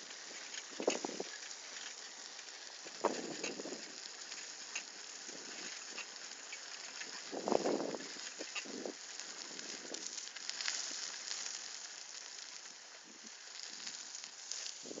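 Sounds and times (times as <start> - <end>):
bicycle tyres hissing: 0.0 - 15.0.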